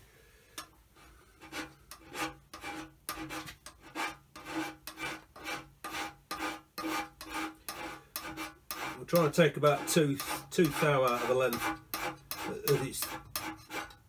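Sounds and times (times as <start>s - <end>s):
hand scraper on cast iron: 1.4s - 14.0s.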